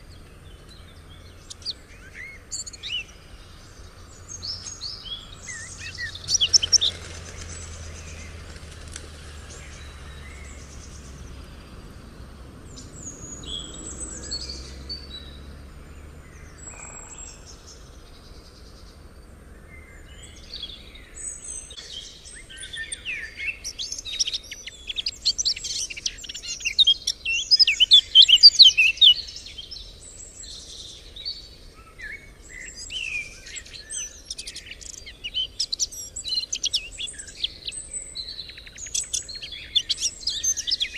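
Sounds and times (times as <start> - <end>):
birds singing and chirping: 0.0 - 40.9.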